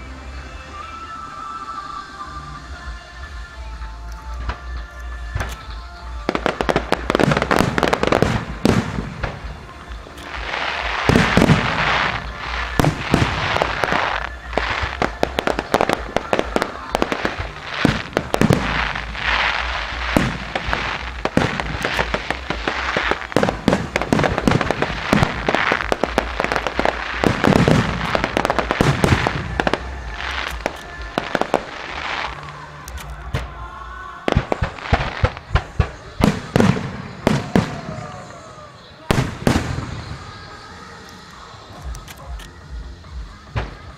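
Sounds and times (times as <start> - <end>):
fireworks bursting: 0.0 - 43.9
fireworks crackling: 0.0 - 43.9.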